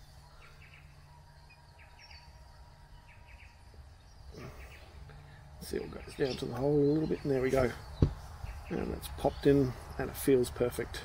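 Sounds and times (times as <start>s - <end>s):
bird chirping: 0.0s - 11.0s
low background hum: 0.0s - 11.0s.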